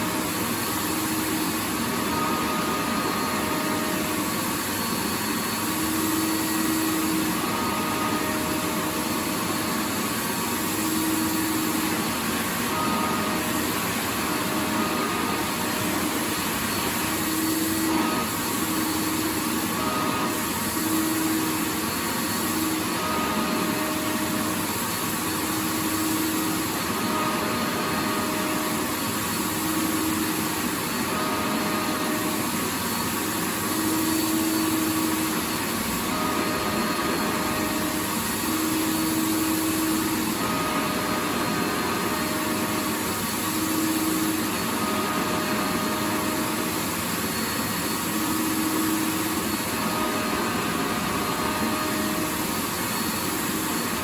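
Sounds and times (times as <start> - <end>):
faint motor hum: 0.0 - 54.0
vacuum cleaner rushing air: 0.0 - 54.0.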